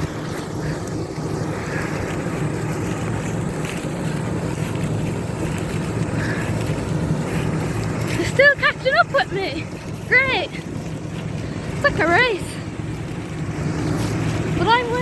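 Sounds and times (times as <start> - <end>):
combine harvester drone: 0.0 - 15.0
wind buffeting microphone: 0.0 - 15.0.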